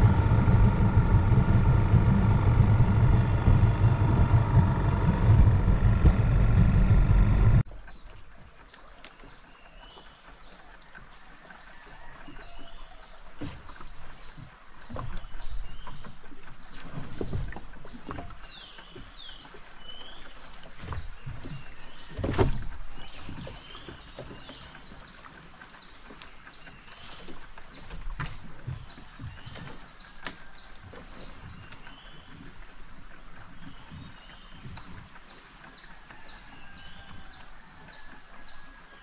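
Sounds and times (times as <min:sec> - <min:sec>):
knocks and rustles in boat: 0:00.0 - 0:39.0.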